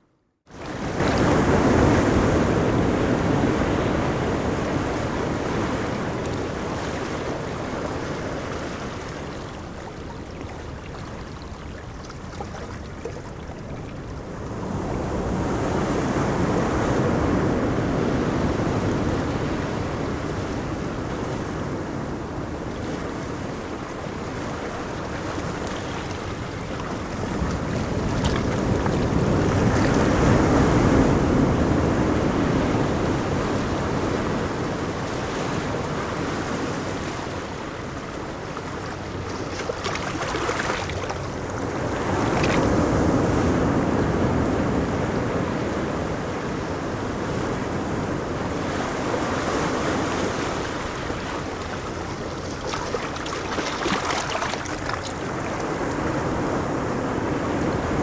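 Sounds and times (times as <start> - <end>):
waves breaking on a beach: 0.5 - 58.0.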